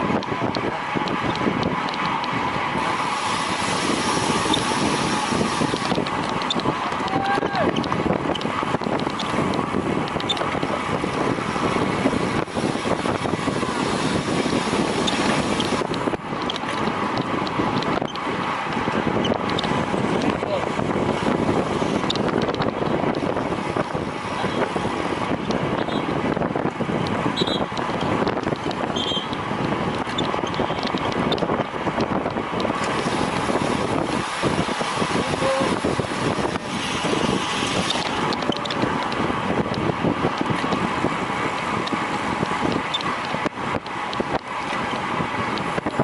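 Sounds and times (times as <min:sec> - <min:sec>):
vehicle rolling noise: 0:00.0 - 0:46.0
wind on microphone: 0:00.0 - 0:46.0.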